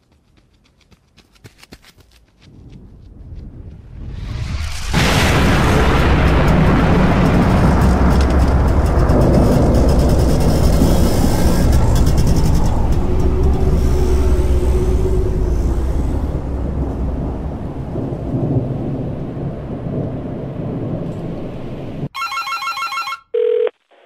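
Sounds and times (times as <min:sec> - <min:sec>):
deep explosion rumble: 0:02.5 - 0:22.1.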